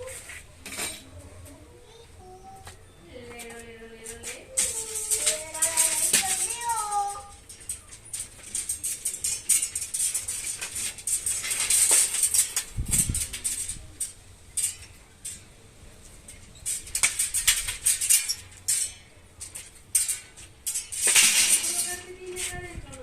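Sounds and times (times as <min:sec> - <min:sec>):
hard objects clicking and rattling: 0:04.1 - 0:23.0.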